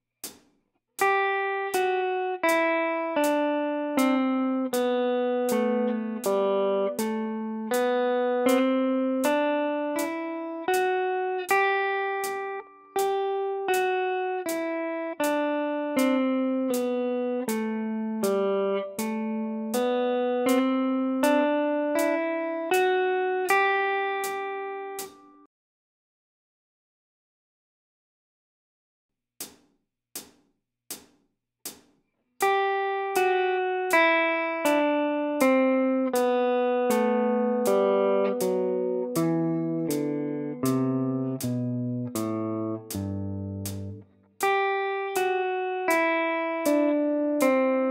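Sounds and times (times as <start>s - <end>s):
electric guitar single notes: 1.0s - 25.4s, 32.4s - 47.9s.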